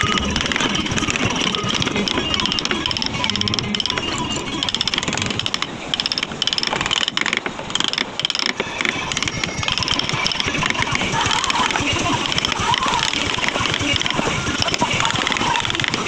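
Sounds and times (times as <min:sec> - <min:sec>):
mallet tapping carving gouge: 0:00.0 - 0:16.0.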